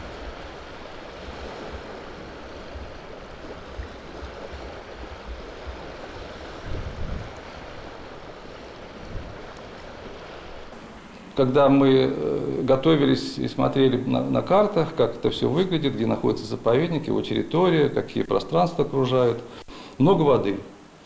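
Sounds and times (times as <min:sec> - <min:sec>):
wind gusts rumbling on microphone: 0:00.0 - 0:18.4.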